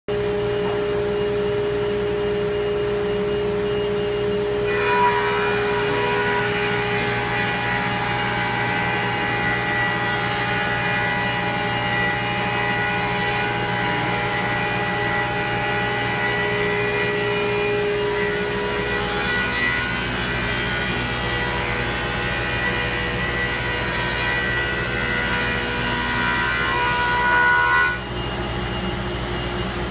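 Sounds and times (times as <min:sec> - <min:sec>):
thickness planer motor hum: 0:00.1 - 0:29.9
planer cutting wood: 0:03.7 - 0:28.2.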